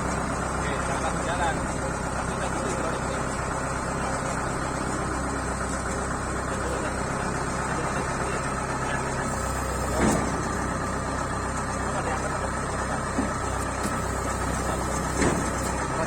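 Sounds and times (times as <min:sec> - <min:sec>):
combine harvester diesel engine running: 0:00.0 - 0:16.0.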